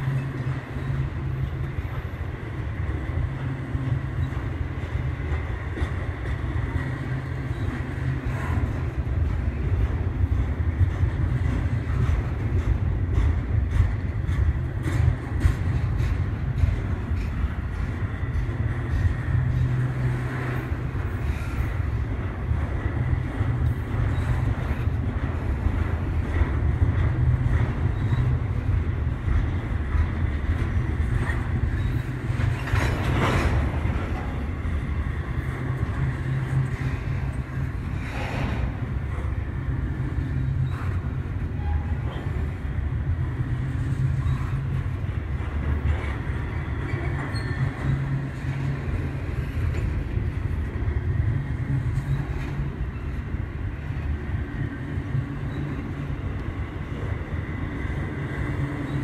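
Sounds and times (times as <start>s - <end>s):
faint clickety-clack: 0.0s - 59.0s
train wheels rumbling on rails: 0.0s - 59.0s.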